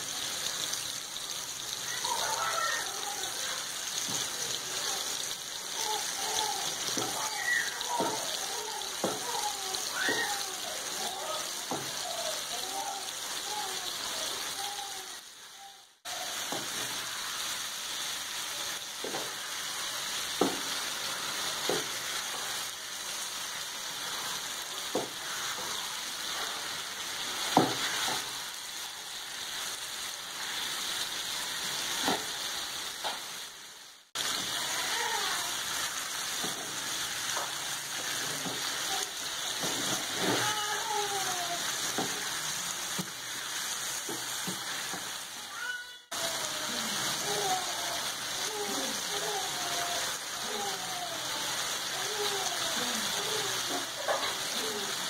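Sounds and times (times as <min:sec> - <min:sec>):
livers sizzling in oil: 0:00.0 - 0:55.0.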